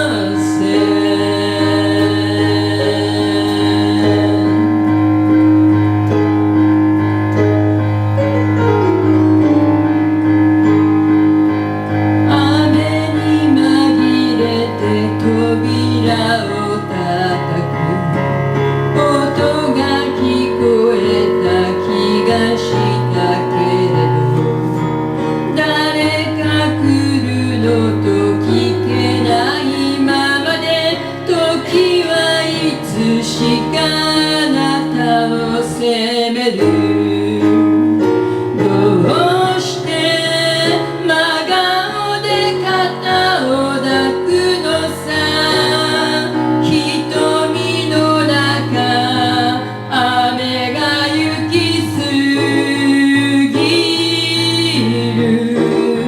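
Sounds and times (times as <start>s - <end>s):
woman singing: 0.0s - 5.0s, 12.3s - 18.2s, 19.0s - 24.8s, 25.4s - 56.0s
keyboard chords: 0.0s - 56.0s.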